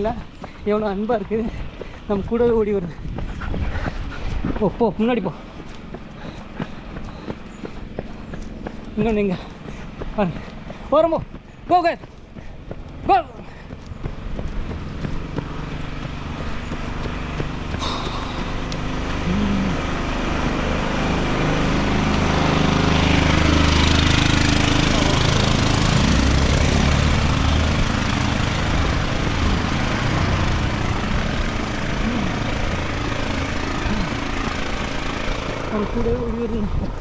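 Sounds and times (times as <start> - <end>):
vehicle engine running: 0.0 - 37.0.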